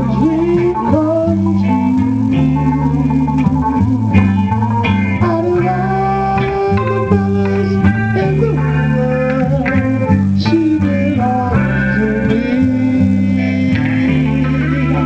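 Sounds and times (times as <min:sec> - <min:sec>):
bass guitar: 0:00.0 - 0:15.0
electric guitars: 0:00.0 - 0:15.0
person singing: 0:00.0 - 0:15.0.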